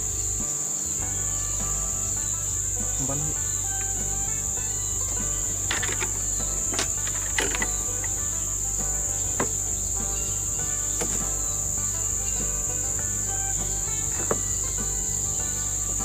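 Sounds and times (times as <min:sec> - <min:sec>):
background music: 0:00.0 - 0:16.0
insects chirring: 0:00.0 - 0:16.0.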